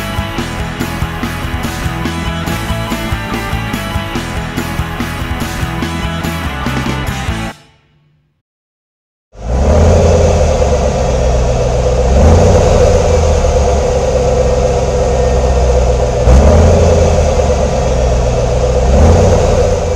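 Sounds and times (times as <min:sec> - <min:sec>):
truck engine revving: 0:00.0 - 0:07.5, 0:09.4 - 0:19.9.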